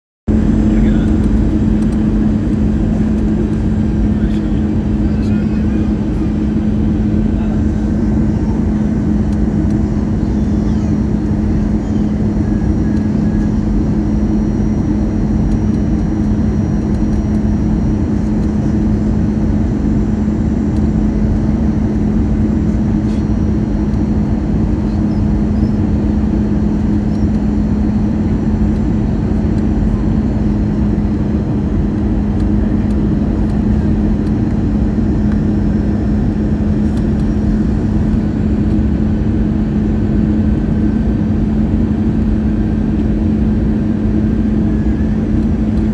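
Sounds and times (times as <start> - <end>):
airliner cabin engine drone: 0.3 - 45.9.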